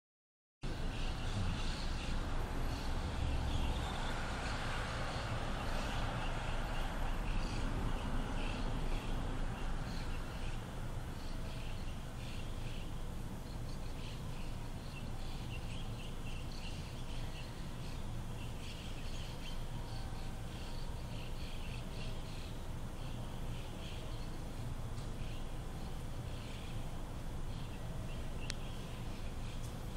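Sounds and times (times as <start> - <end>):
small birds chirping: 0.7 - 29.9.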